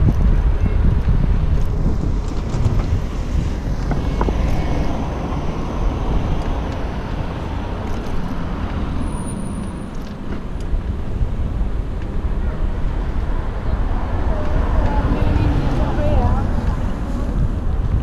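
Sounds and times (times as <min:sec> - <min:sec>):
cars going by: 0:00.0 - 0:18.0
wind rumble on microphone: 0:00.0 - 0:18.0.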